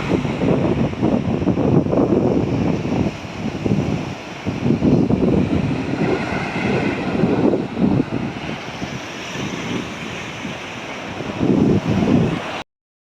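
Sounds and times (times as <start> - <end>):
ocean surf washing: 0.0 - 12.6
wind buffeting microphone: 0.0 - 12.6.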